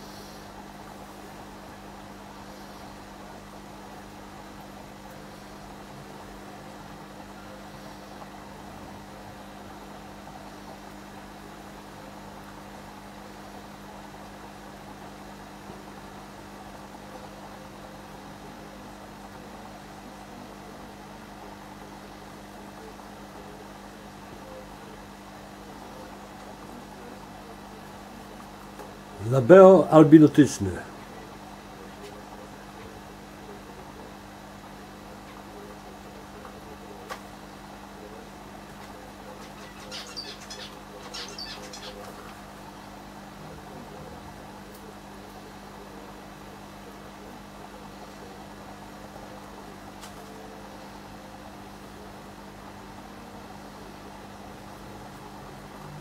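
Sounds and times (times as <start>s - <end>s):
aquarium air pumps humming: 0.0s - 56.0s.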